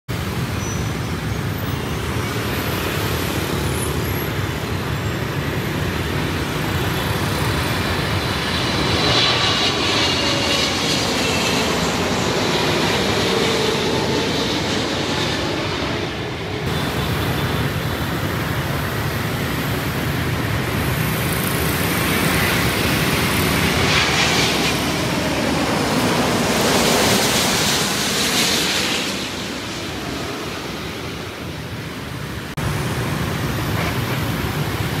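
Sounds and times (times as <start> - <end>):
jet airliner passing overhead: 0.2 - 35.0
gliding engine whine: 1.7 - 34.1.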